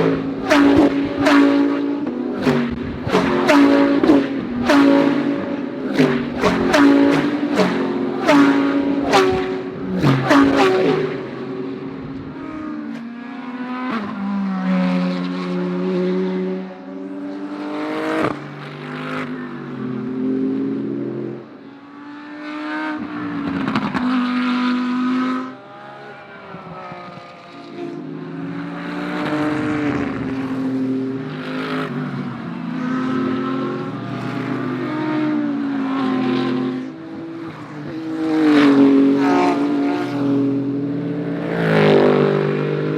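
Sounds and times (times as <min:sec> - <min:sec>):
race cars passing at speed: 0:00.0 - 0:42.9.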